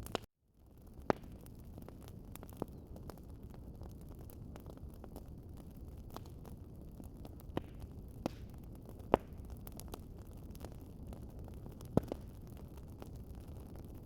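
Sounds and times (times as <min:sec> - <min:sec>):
sharp fire pops: 0:00.0 - 0:14.0
wood fire crackling: 0:00.0 - 0:14.0.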